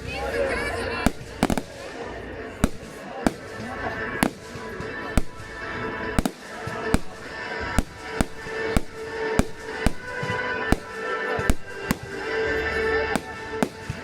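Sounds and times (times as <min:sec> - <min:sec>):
fireworks bangs: 0:00.0 - 0:14.0
music: 0:00.0 - 0:14.0.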